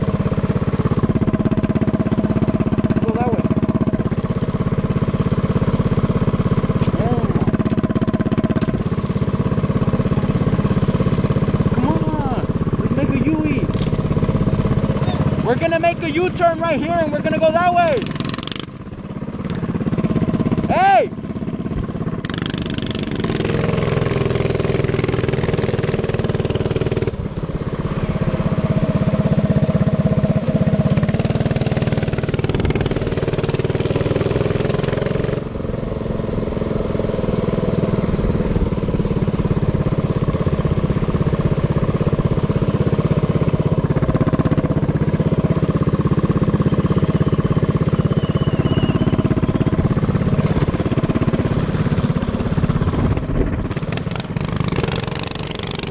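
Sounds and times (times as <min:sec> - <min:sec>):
minibike engine running: 0:00.0 - 0:55.9.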